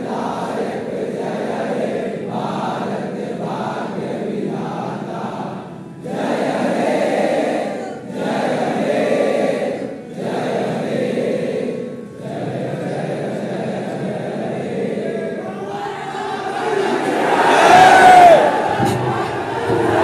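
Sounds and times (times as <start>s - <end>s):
boys singing in unison: 0.0s - 20.0s.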